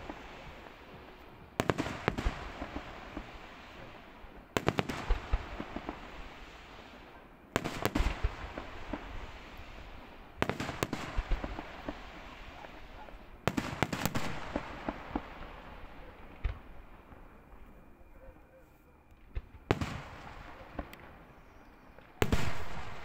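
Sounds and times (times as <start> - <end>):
fireworks bangs and crackle: 0.0 - 17.8, 19.1 - 23.0.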